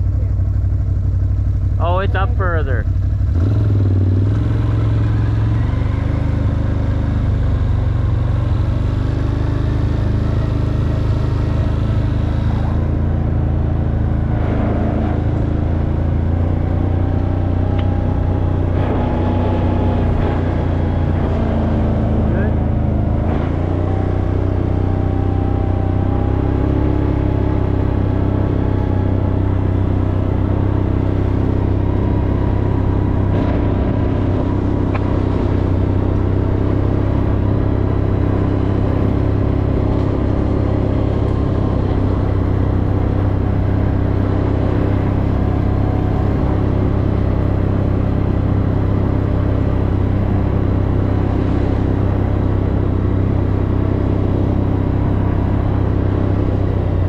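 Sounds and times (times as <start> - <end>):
car interior engine and road noise: 0.0 - 57.0.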